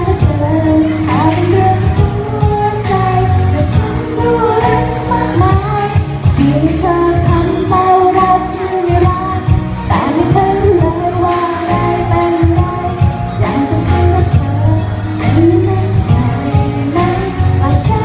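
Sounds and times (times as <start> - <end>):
pop backing music with beat: 0.0 - 18.0
woman singing into microphone: 0.0 - 18.0.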